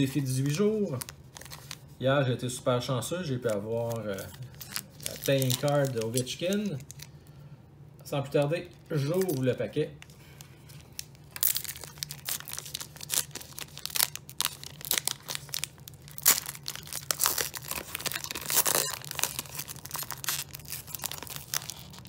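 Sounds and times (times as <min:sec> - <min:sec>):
plastic wrapper tearing and crinkling: 0:00.0 - 0:02.0, 0:03.2 - 0:07.2, 0:08.3 - 0:22.0.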